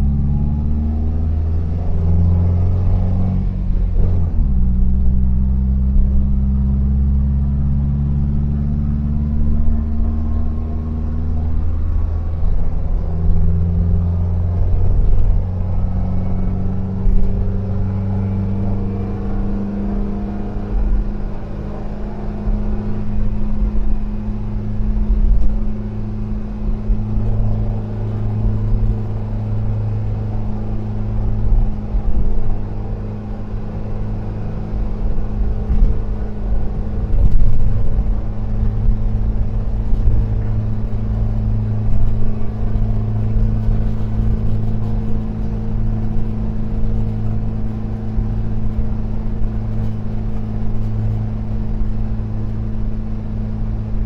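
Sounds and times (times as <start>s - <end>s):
van engine droning: 0.0s - 54.0s.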